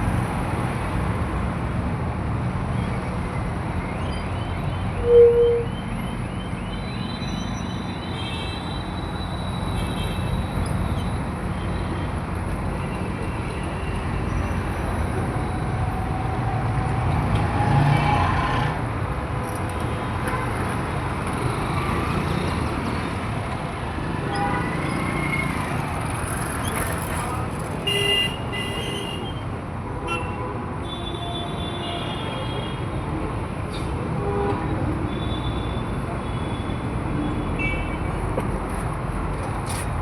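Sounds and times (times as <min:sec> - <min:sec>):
rumble of passing vehicles: 0:00.0 - 0:40.0.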